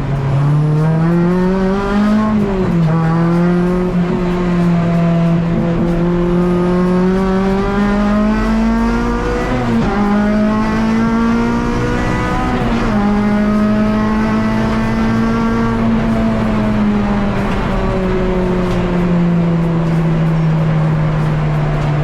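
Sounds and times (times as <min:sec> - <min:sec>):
race car engine accelerating: 0:00.0 - 0:22.0.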